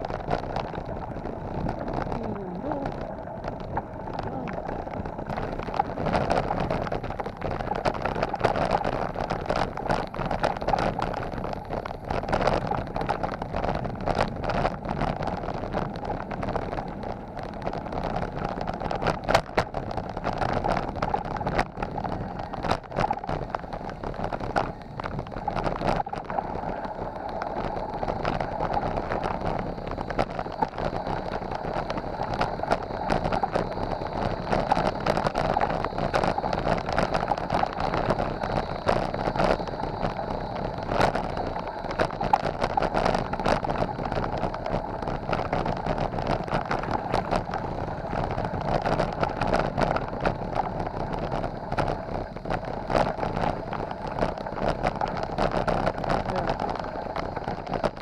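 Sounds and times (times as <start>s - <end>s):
bike tyres on gravel: 0.0s - 58.0s
wind noise: 0.0s - 58.0s.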